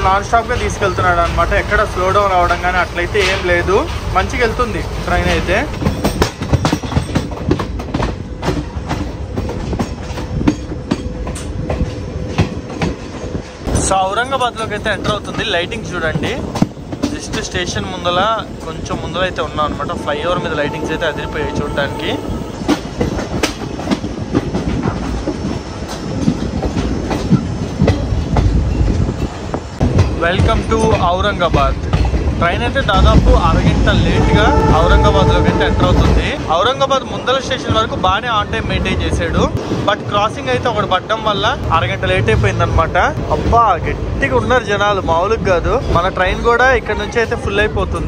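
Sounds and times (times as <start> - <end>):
train coach rumbling: 0.0 - 48.0
wheels clacking over rail joints: 0.0 - 48.0.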